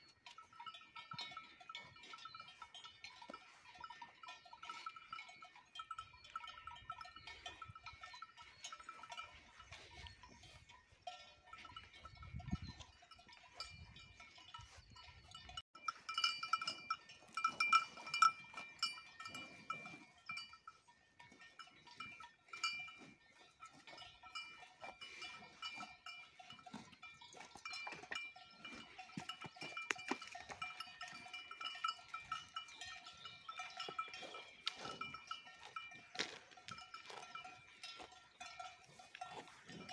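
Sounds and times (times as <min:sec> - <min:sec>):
cowbells ringing and clanking: 0:00.0 - 0:39.9.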